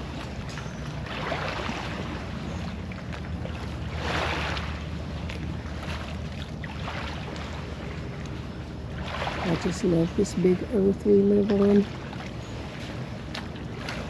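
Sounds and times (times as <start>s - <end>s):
lake waves washing on shore: 0.0s - 14.0s
wind rumble on microphone: 0.0s - 14.0s.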